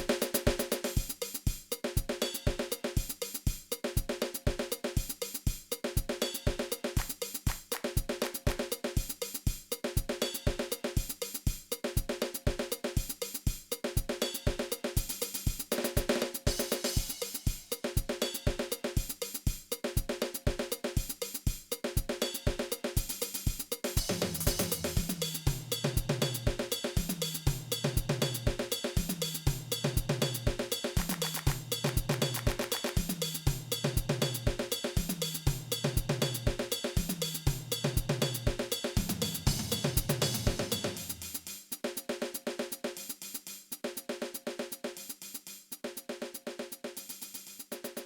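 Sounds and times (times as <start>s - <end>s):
drum kit beat: 0.0s - 48.0s.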